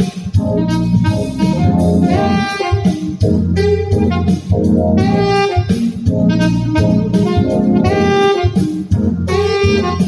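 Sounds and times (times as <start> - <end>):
drums: 0.0 - 10.0
saxophone lead: 0.0 - 10.0.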